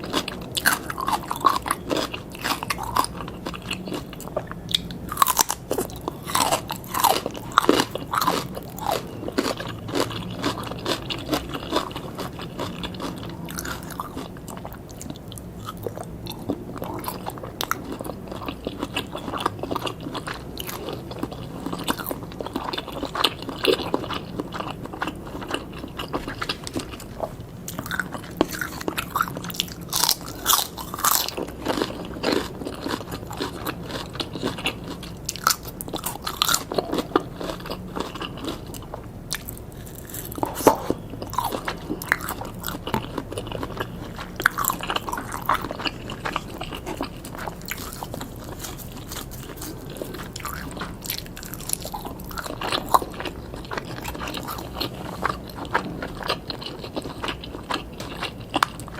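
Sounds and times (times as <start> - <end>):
crunchy bites: 0.0 - 58.9
wet chewing: 0.0 - 58.9.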